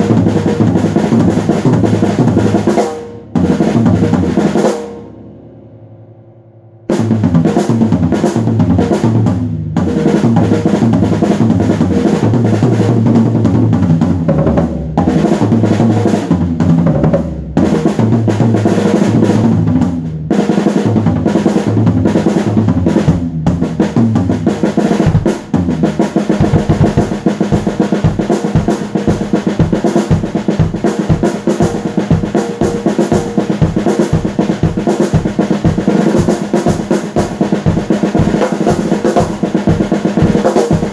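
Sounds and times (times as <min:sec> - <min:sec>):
loud drum-kit music: 0:00.0 - 0:05.2, 0:06.9 - 0:40.9.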